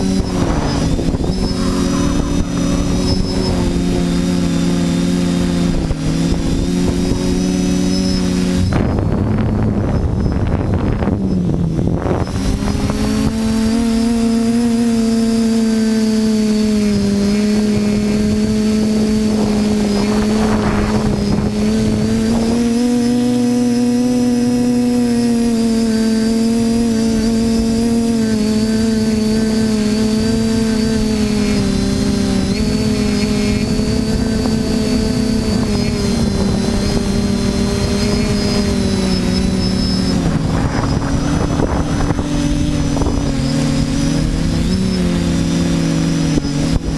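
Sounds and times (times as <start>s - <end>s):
quadcopter propellers buzzing: 0.0s - 46.9s.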